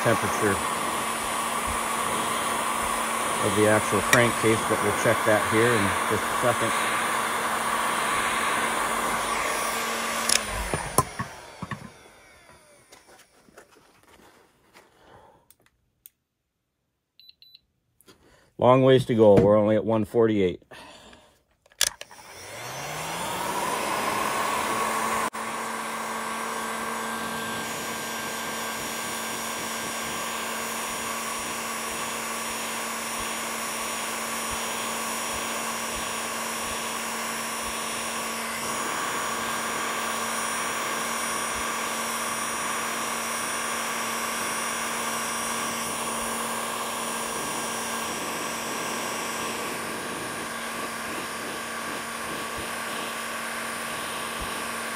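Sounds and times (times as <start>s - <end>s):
heat gun fan whirring: 0.0s - 16.2s, 18.6s - 54.9s.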